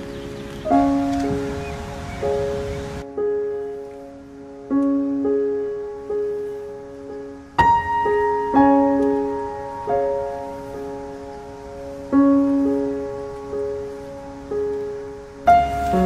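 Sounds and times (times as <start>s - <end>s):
soft slow piano notes: 0.0s - 16.0s.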